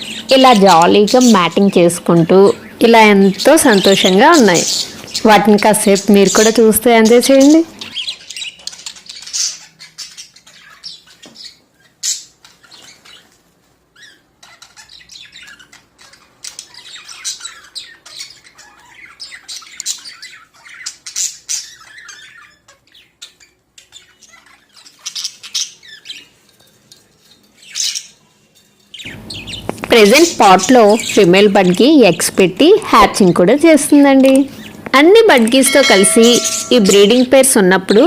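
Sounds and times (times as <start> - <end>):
budgerigars squawking and chirping: 0.0 - 26.4, 28.9 - 31.8, 35.7 - 38.0.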